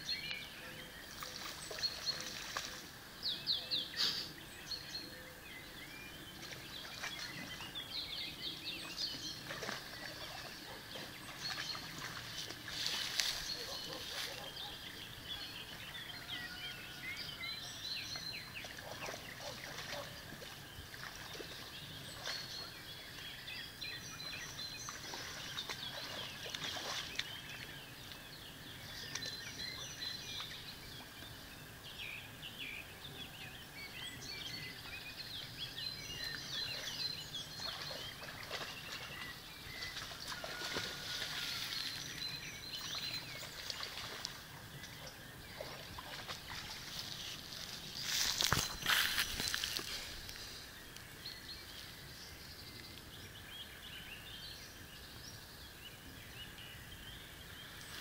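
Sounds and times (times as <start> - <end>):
songbirds singing and chirping: 0.0 - 58.0.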